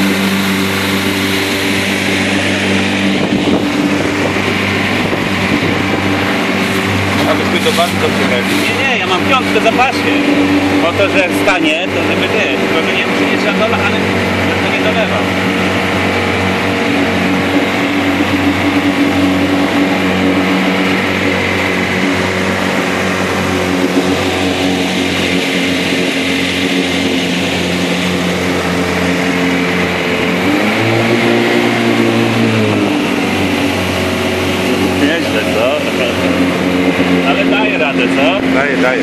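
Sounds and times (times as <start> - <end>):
motorboat engine running: 0.0 - 39.0
steady rushing noise: 0.0 - 39.0.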